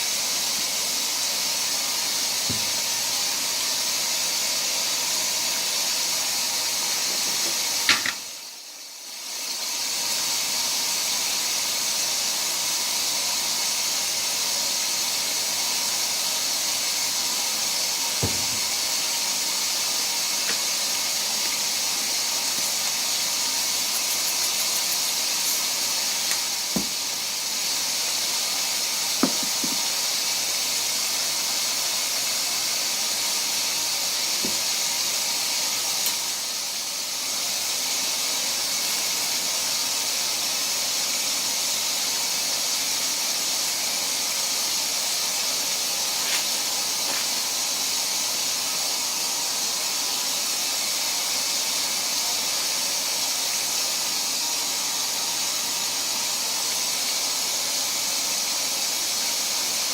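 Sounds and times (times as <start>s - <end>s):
washing machine filling hiss: 0.0s - 59.9s.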